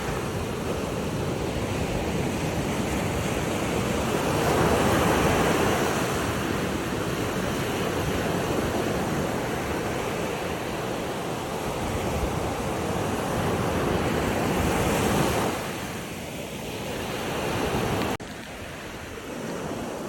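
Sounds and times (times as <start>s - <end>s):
ocean waves on a shore: 0.0s - 20.0s.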